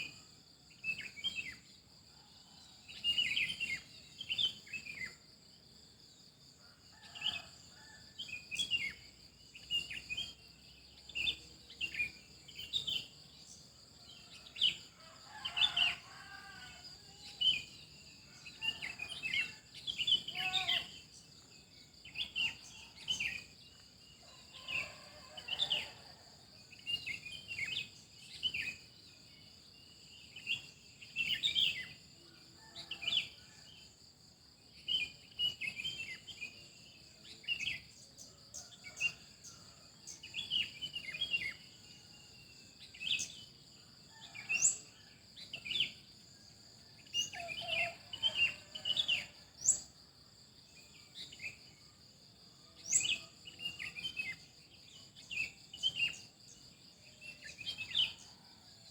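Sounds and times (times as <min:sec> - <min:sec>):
insect drone: 0:00.0 - 0:58.9.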